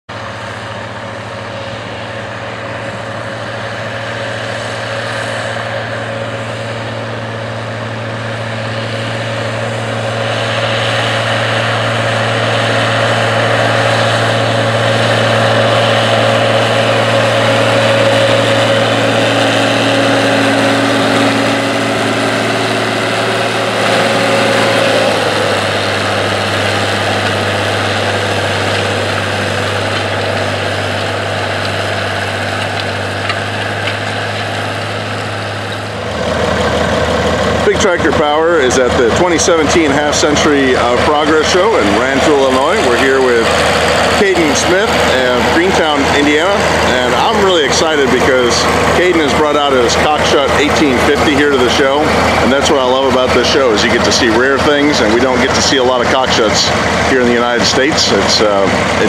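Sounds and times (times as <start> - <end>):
tractor diesel engine under load: 0.1 - 59.0.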